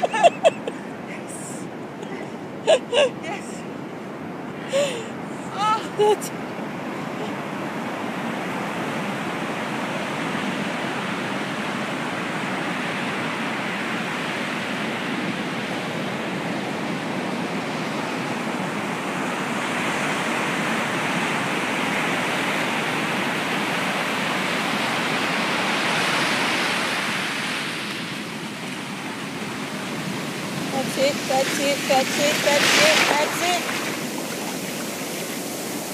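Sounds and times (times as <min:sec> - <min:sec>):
ocean surf breaking on beach: 0:00.0 - 0:35.9.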